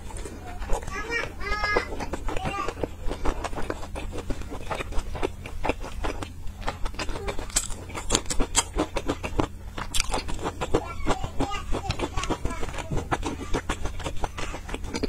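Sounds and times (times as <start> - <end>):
low steady hum: 0.0 - 15.0
mouth chewing soft food: 0.0 - 15.0.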